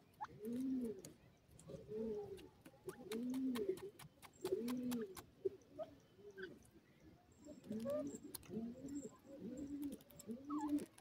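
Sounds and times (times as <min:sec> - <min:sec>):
soft low bird cooing: 0:00.0 - 0:11.0.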